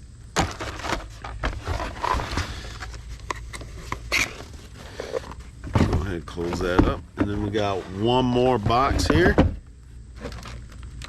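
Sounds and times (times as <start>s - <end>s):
packaging rustling and scraping: 0.4s - 9.4s, 10.1s - 11.0s.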